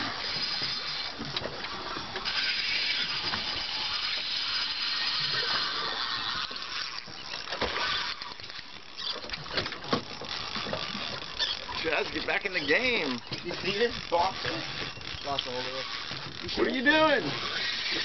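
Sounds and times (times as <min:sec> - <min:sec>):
fishing reel whirring: 0:00.0 - 0:18.0
fishing reel click: 0:02.2 - 0:18.0.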